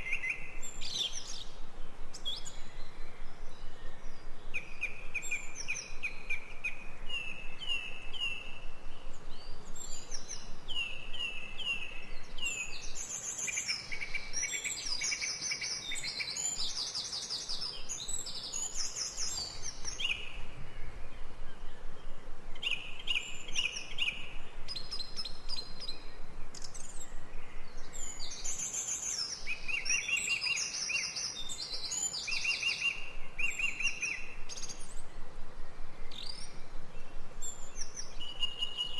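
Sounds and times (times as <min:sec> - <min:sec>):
birds chirping and trilling: 0:00.0 - 0:38.9
faint background hiss: 0:00.0 - 0:38.9.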